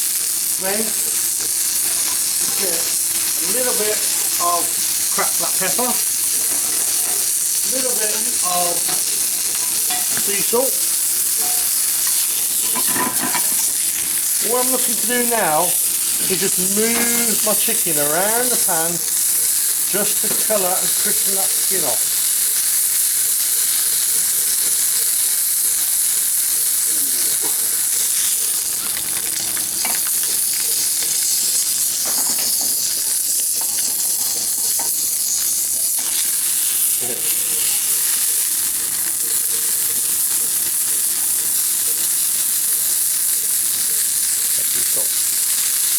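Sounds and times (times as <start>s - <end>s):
chicken sizzling in hot oil: 0.0s - 45.9s.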